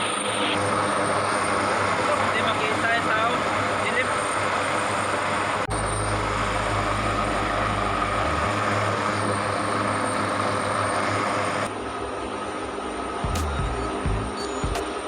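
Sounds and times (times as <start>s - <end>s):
helicopter rotor and engine noise: 0.0s - 15.0s.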